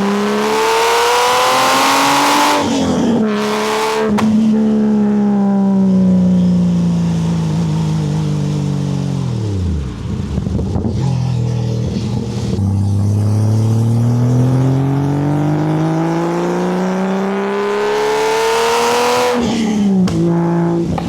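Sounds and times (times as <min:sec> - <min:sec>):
loud car engine revving: 0:00.0 - 0:21.0.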